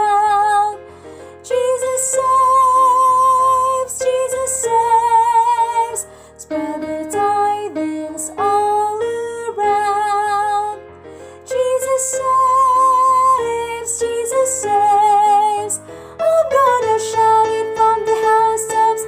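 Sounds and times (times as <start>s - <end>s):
choral music accompaniment: 0.0s - 19.0s
woman singing with vibrato: 1.4s - 10.8s, 11.5s - 19.0s.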